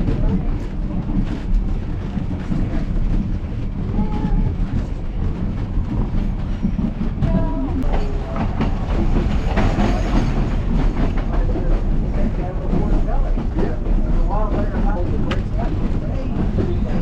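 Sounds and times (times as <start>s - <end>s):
train car rumble: 0.0s - 17.0s
wheels clacking on rails: 0.0s - 17.0s.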